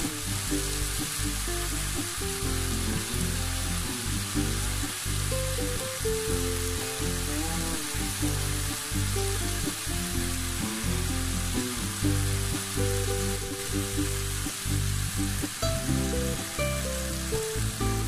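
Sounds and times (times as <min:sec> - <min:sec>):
background music: 0:00.0 - 0:18.0
vegetables sizzling in oil: 0:00.0 - 0:18.0.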